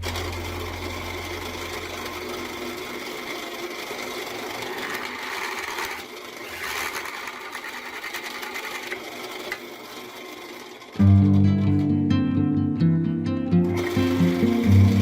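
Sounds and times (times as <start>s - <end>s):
electric drill drilling: 0.0s - 11.0s, 13.7s - 15.0s.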